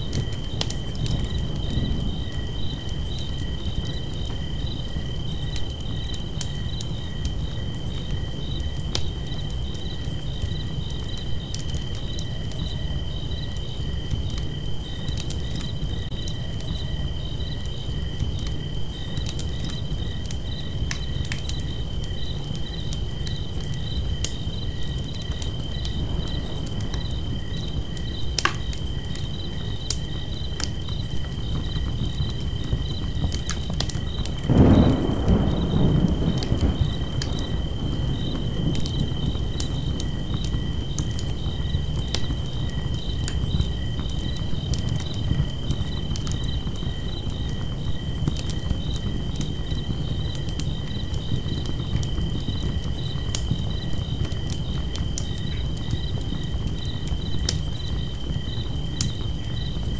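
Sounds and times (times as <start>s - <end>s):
campfire crackling: 0.0s - 59.9s
cricket pulsing chirp: 0.0s - 59.9s
fire popping: 0.0s - 59.9s.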